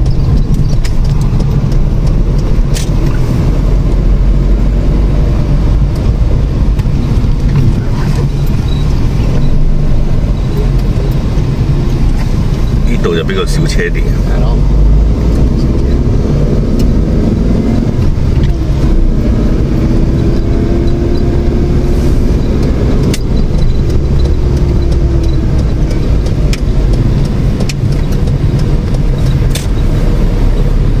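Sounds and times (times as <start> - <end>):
car engine hum: 0.0 - 31.0
tyre and road rumble: 0.0 - 31.0.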